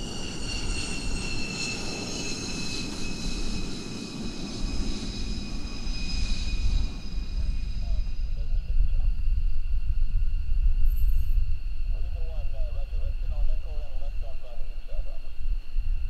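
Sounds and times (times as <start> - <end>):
high jet whine: 0.0 - 16.0
jet engines rumbling: 0.0 - 16.0.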